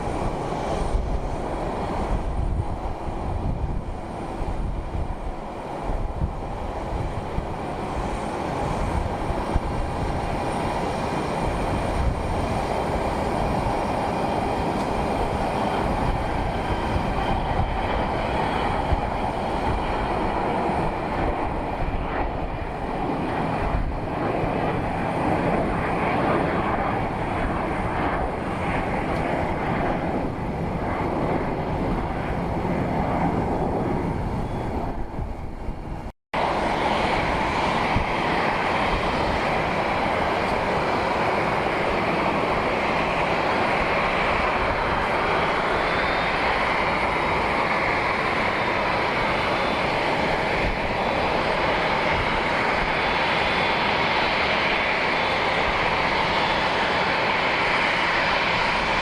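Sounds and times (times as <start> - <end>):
airplane engines running: 0.0 - 59.0.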